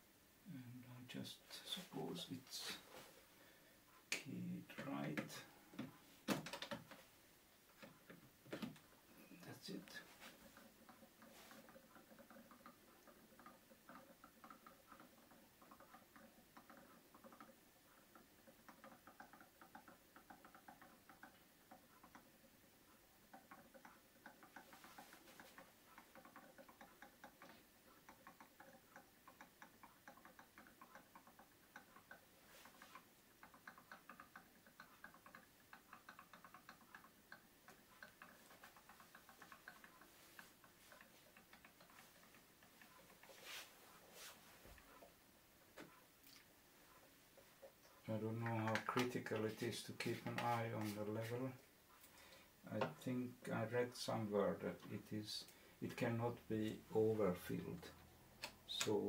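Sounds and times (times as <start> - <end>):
ink draining crackle: 9.0 - 59.0.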